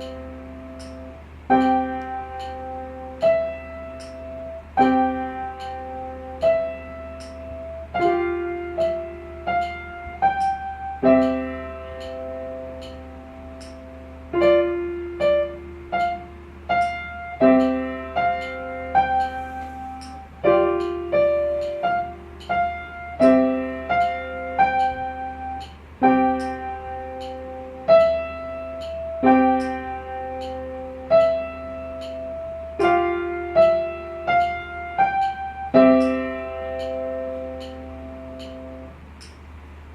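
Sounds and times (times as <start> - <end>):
simple piano piece: 0.0 - 39.9.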